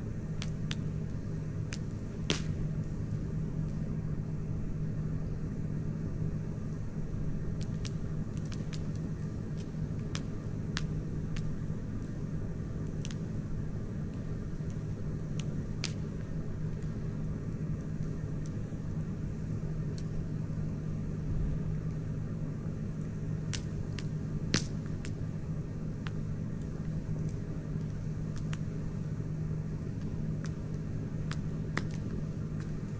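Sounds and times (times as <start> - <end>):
campfire crackling: 0.0 - 32.9.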